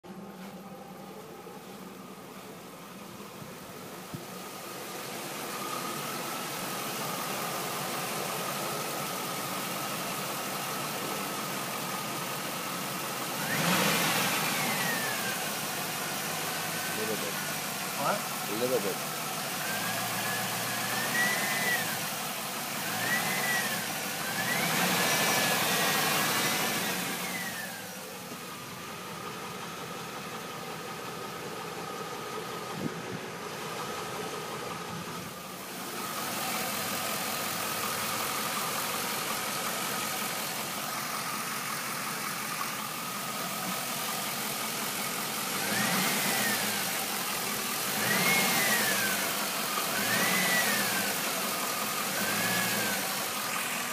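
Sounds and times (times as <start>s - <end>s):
car engine revving and idling: 0.0s - 53.9s
engine knocking noise: 7.0s - 53.9s.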